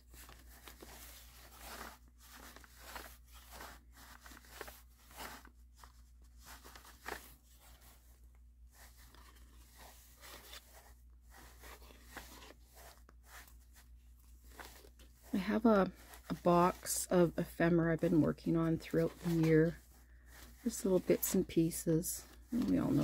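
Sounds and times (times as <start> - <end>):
paper rustling: 0.0 - 23.0
thread pulled through paper: 0.0 - 23.0.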